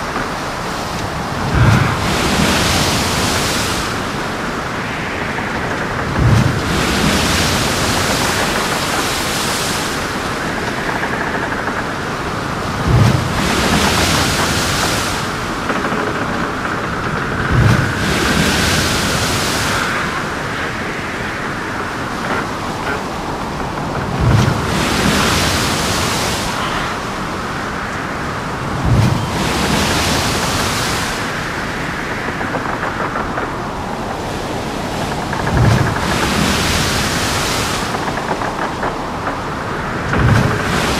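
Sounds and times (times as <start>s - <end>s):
heavy seas surging: 0.0s - 40.9s
wind: 0.0s - 40.9s.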